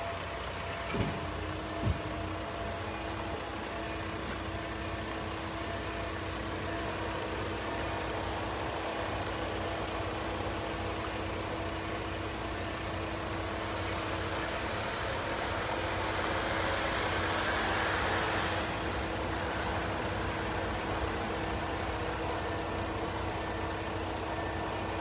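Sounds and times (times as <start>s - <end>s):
constant low hum: 0.0s - 25.0s
distant vehicle: 0.0s - 25.0s.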